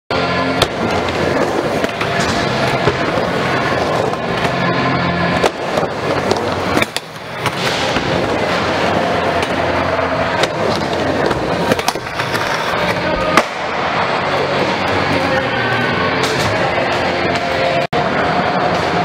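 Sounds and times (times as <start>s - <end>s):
skateboard wheels rolling on ramps: 0.1s - 19.0s.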